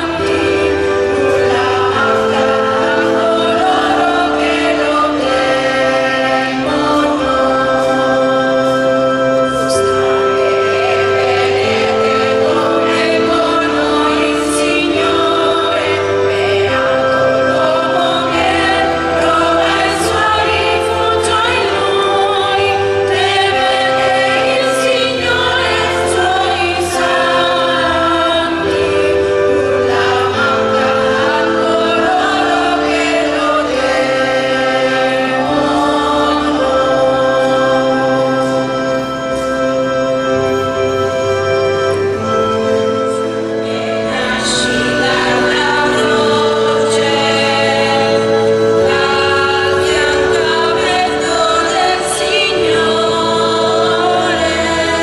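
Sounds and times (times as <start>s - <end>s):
choir singing a hymn: 0.0s - 55.0s
held accompaniment chords: 0.0s - 55.0s.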